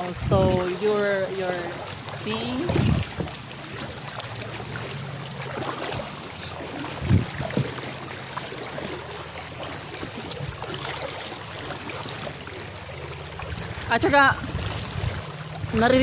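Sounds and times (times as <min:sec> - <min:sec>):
paddles splashing in water: 0:00.0 - 0:16.0.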